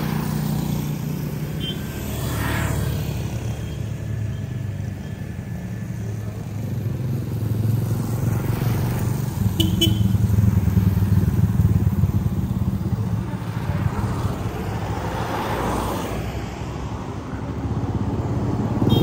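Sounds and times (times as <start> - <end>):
motorcycle passing: 0.0 - 16.3
traffic engine drone: 0.0 - 19.0.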